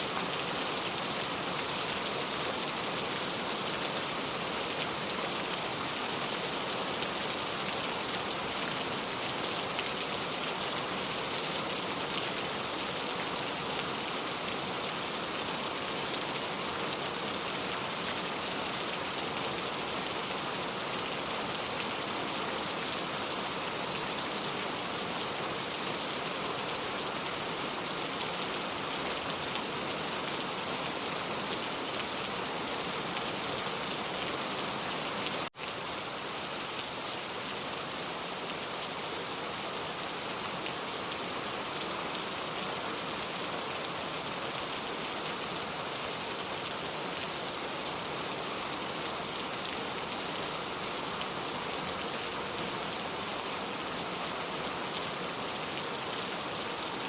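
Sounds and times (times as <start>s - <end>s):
pouring rain: 0.0s - 57.0s.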